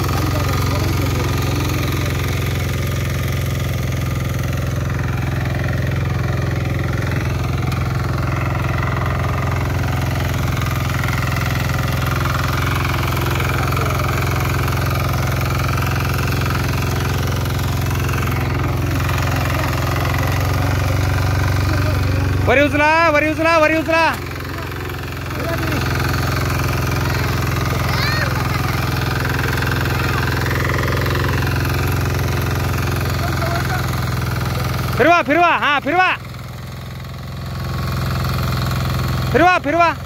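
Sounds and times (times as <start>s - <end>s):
power weeder engine running: 0.0s - 40.0s.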